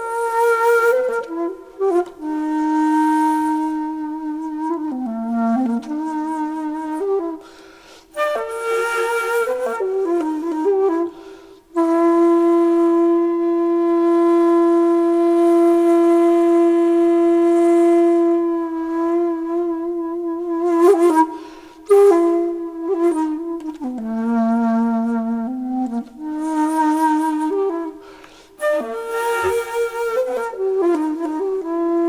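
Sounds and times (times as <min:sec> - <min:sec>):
solo flute playing: 0:00.0 - 0:32.0.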